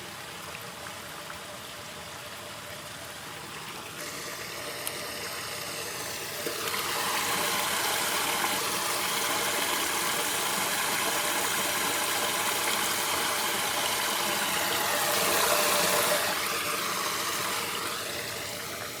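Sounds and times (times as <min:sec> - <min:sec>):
water gushing into storm drain: 0:00.0 - 0:19.0.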